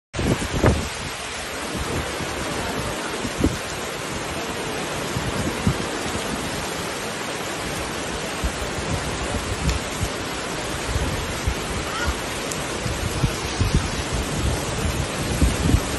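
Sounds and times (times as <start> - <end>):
heavy rain: 0.2 - 15.9.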